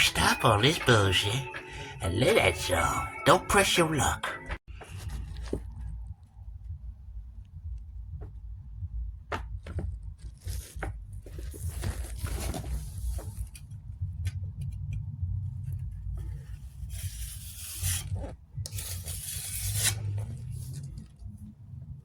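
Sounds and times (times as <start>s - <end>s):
steady low rumble: 4.2s - 22.0s.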